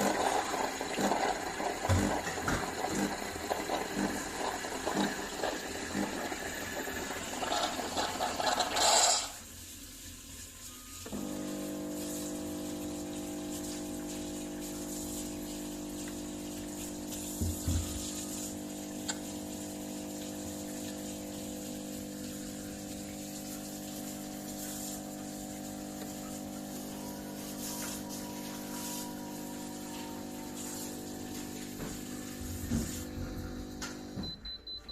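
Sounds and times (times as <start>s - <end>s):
espresso machine pump humming: 0.0s - 9.5s, 10.8s - 34.4s.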